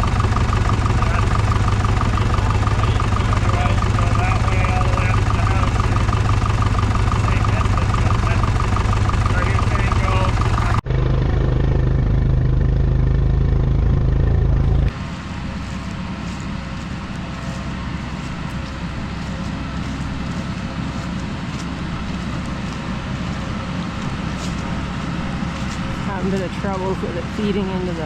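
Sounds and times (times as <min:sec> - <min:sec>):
forage harvester machinery: 0:00.0 - 0:28.0
tractor engine droning: 0:00.0 - 0:28.0.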